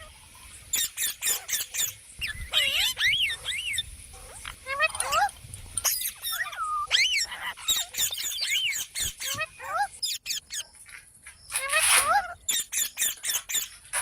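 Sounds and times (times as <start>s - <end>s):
parrot chirping and squawking: 0.7s - 10.8s, 11.4s - 14.0s.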